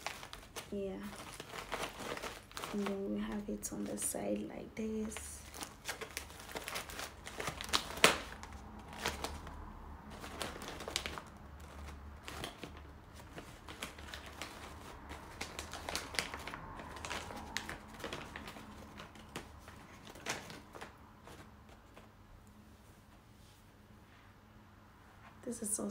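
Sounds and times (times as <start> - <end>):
stiff fabric rustling and crackling: 0.0 - 24.1.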